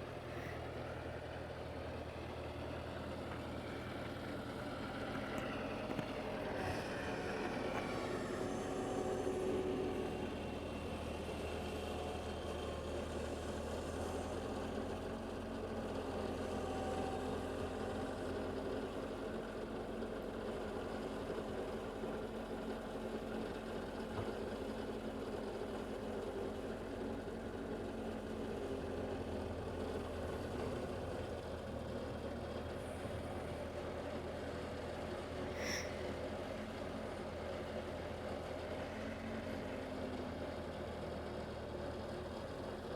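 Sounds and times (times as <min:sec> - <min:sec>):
snow plough engine running: 0:00.0 - 0:42.9.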